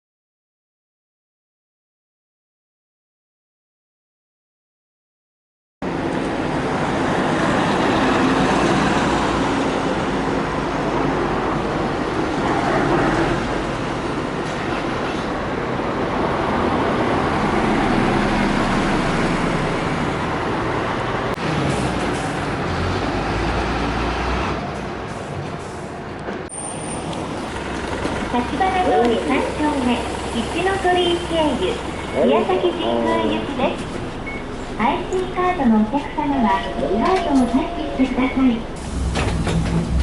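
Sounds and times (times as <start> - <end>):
bus engine and road noise: 5.8 - 40.0.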